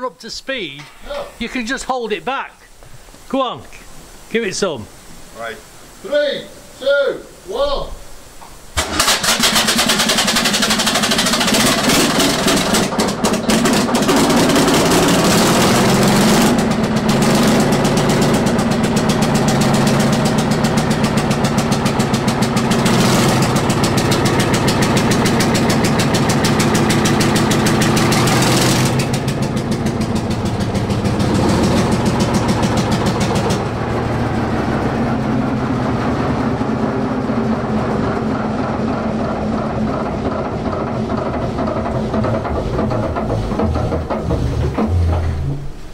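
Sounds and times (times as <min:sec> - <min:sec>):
diesel engine starting and running: 0:08.8 - 0:45.9.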